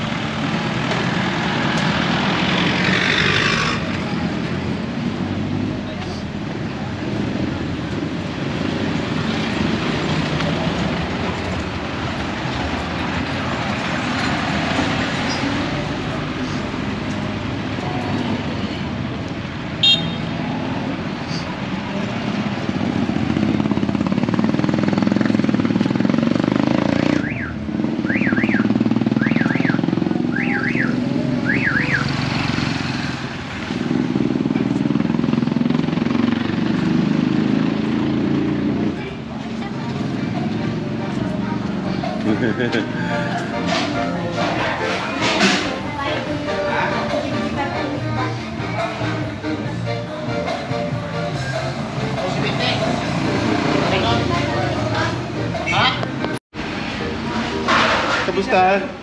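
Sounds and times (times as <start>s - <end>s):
motorcycles passing: 0.0s - 59.0s
street traffic: 0.0s - 59.0s.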